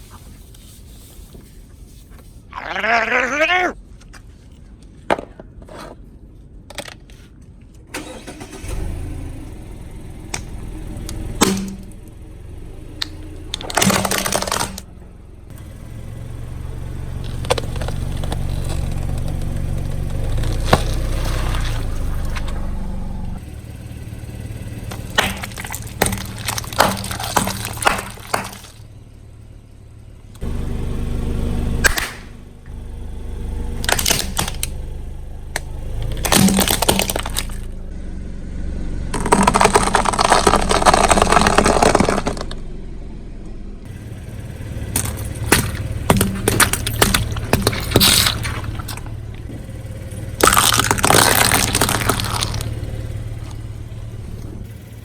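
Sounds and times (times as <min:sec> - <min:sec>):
car engine humming: 0:07.9 - 0:55.0
car tyre crushing objects: 0:07.9 - 0:55.0.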